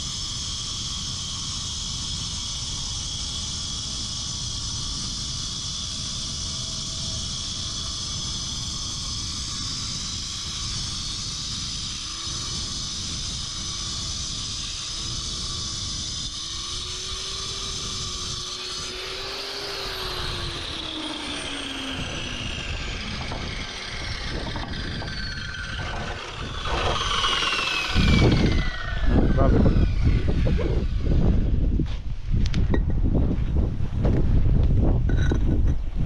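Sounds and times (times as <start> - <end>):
wind buffeting microphone: 0.0 - 36.0
machine motor running: 1.7 - 31.5.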